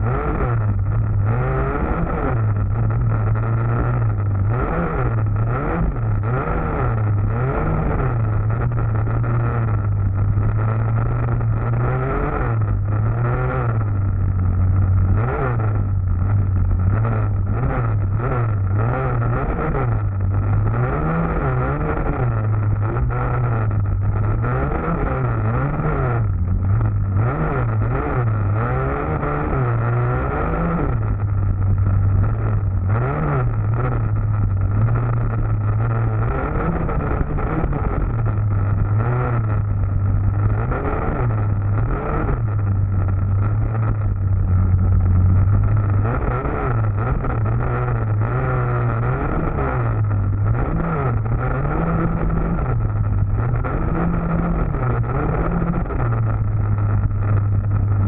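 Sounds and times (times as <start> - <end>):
dirt bike engine revving: 0.0 - 56.2.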